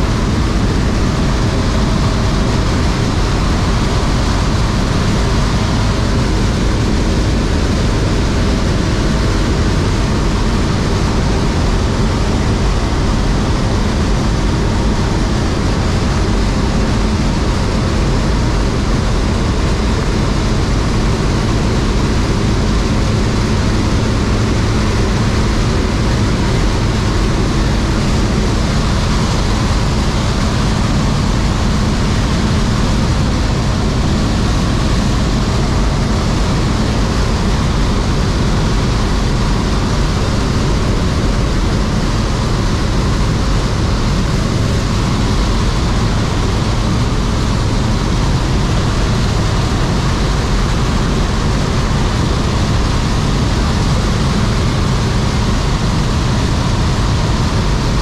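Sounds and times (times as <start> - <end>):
plane engine and propeller drone: 0.0 - 58.0.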